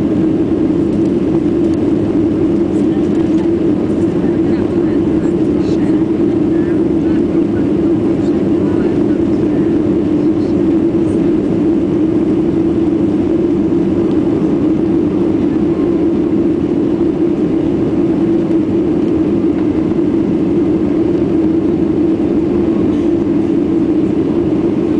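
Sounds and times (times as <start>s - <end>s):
airplane cabin engine hum: 0.0s - 24.9s.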